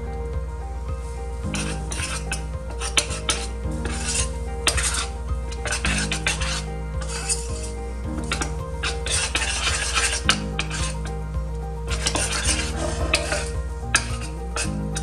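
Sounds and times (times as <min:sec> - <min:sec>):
background music with held notes: 0:00.0 - 0:15.0
metal spoon scraping a pot: 0:01.5 - 0:11.2, 0:11.9 - 0:15.0.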